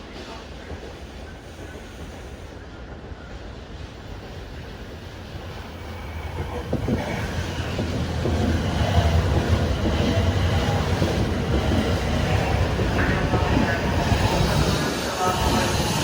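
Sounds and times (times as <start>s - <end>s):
train approaching rumble: 0.0s - 16.0s.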